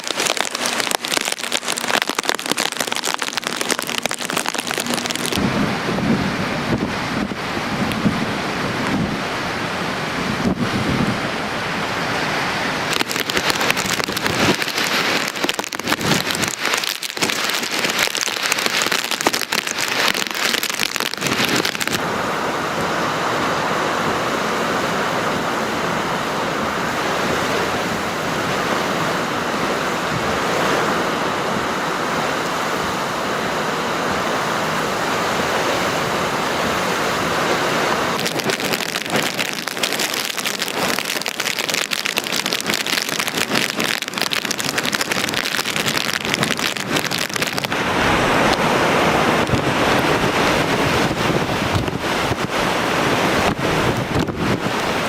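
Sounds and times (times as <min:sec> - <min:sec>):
wind and driving rain: 0:00.0 - 0:55.0
wind gusts crackling on microphone: 0:00.0 - 0:55.0.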